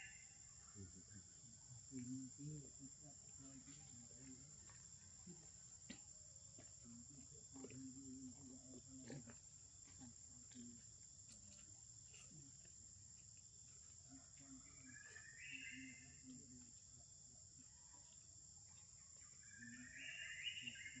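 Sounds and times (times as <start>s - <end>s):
insect chorus drone: 0.0s - 21.0s
short insect chirp: 0.0s - 21.0s.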